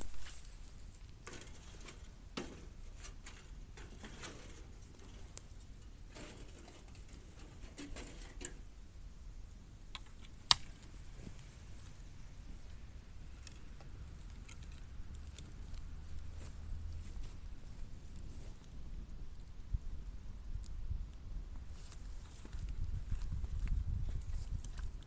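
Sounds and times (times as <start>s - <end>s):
fire crackling: 0.0s - 25.0s
low steady rumble: 0.0s - 25.0s.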